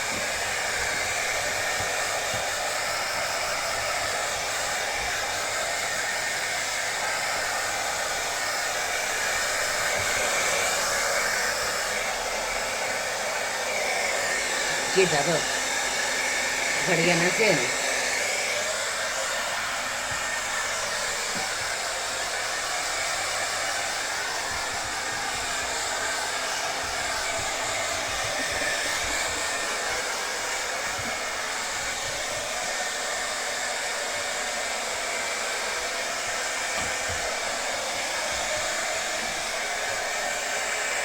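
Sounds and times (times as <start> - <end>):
blow dryer whooshing: 0.0 - 41.0.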